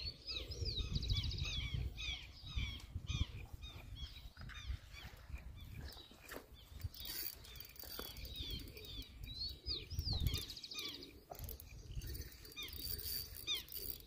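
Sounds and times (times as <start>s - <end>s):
bird trill: 0.0s - 14.0s
birds chirping: 0.0s - 14.0s.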